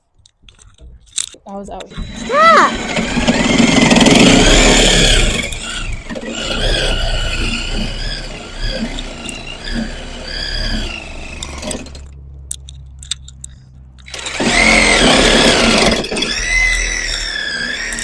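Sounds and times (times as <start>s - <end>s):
reciprocating saw cutting wood: 1.8s - 12.1s, 13.6s - 18.0s.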